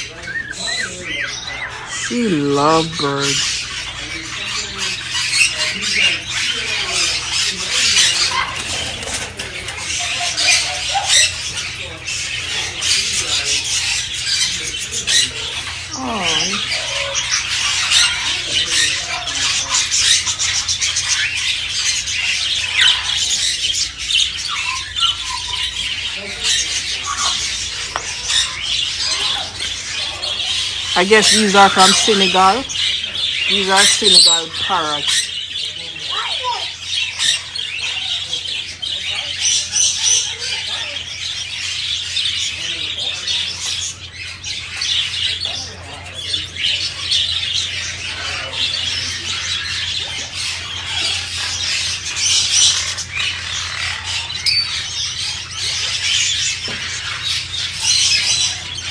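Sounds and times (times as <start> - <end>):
parrots squawking and chattering: 0.0 - 58.9.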